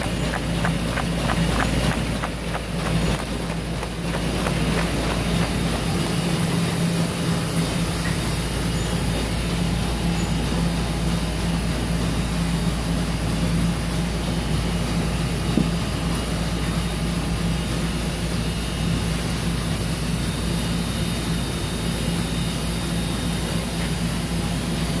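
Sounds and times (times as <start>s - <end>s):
production-line machinery humming: 0.0s - 25.0s.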